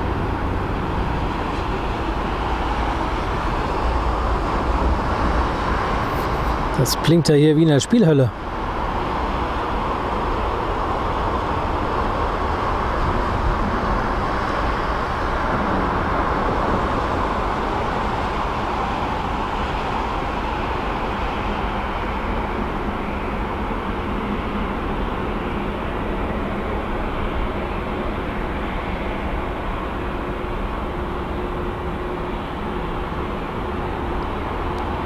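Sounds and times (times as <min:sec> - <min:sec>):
jet engines at taxi power: 0:00.0 - 0:35.0.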